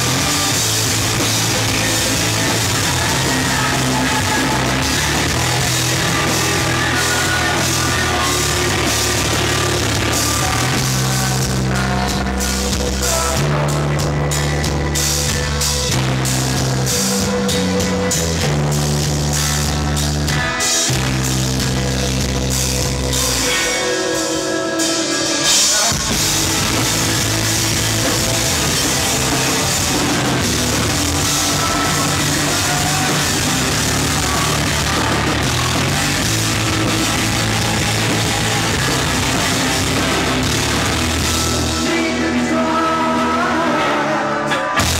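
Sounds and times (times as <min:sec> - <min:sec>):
held low bass notes: 0:00.0 - 0:23.4, 0:26.1 - 0:42.0
rock band playing live: 0:00.0 - 0:44.9.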